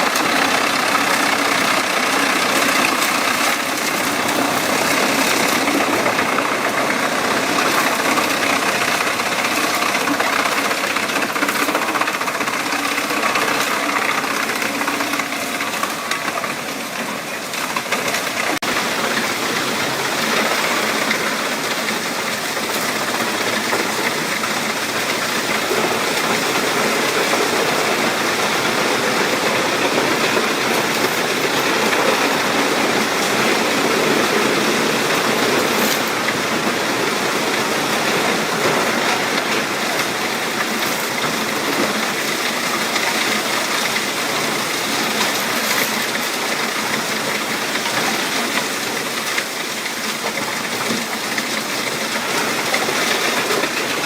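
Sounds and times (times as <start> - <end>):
wood chipper running: 0.0 - 54.0.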